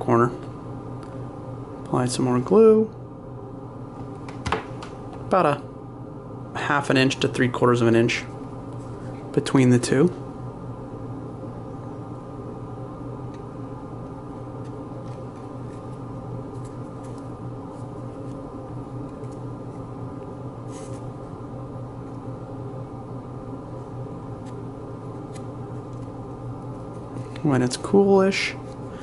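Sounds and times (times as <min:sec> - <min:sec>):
room hum: 0:00.0 - 0:29.0.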